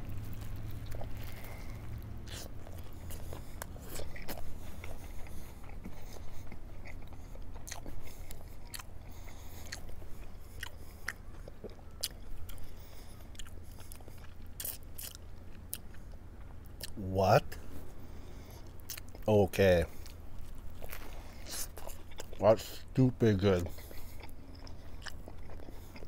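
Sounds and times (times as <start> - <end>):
crunch of crispy food: 0.0 - 17.0, 19.9 - 26.0
person chewing food: 0.0 - 17.0, 17.6 - 19.3, 19.9 - 22.9, 23.5 - 26.0.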